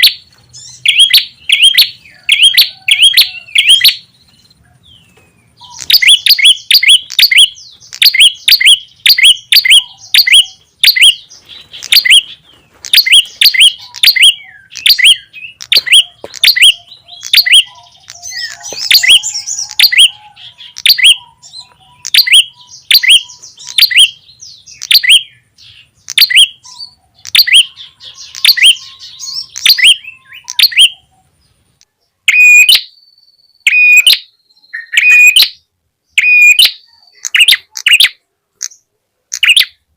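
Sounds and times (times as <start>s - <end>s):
lower-pitched chirps: 0.0s - 4.6s, 5.6s - 25.4s, 26.1s - 31.1s, 32.3s - 32.9s, 33.6s - 35.6s
sharp loud bird chirps: 0.0s - 31.2s, 32.3s - 38.8s, 39.4s - 39.8s.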